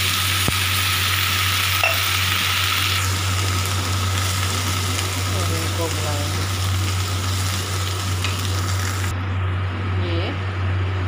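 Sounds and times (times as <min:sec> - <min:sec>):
vegetables sizzling in a frying pan: 0:00.0 - 0:09.1
steady low hum: 0:00.0 - 0:11.0.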